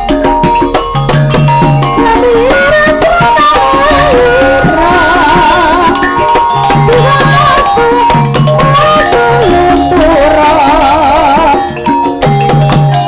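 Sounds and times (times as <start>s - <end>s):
hand drums beating: 0.0s - 13.0s
metallophone tones: 0.0s - 13.0s
wavering melody line: 0.0s - 13.0s.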